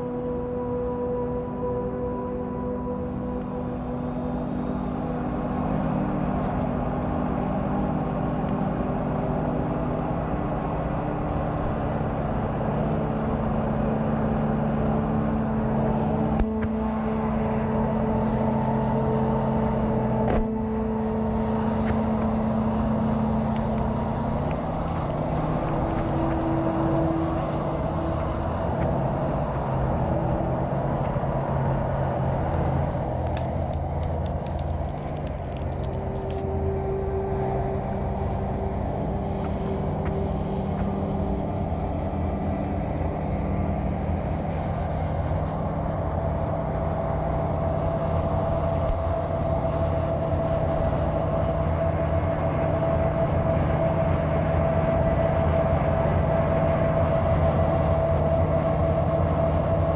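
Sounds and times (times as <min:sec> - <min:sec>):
low mechanical engine rumble: 0:00.0 - 0:59.9.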